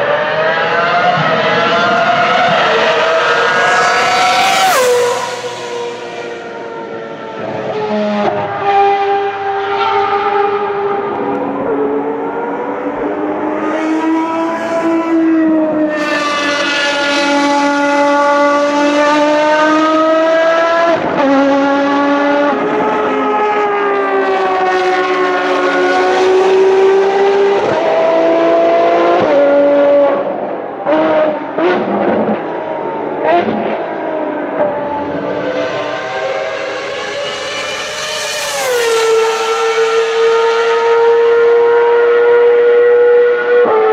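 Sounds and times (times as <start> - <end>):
racing car engine at full throttle: 0.0 - 43.9.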